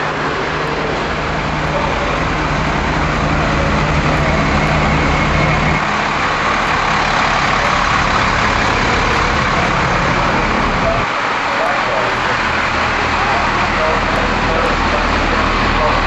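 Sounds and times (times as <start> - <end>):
constant wash of noise: 0.0 - 16.0
fire engines idling: 0.0 - 16.0.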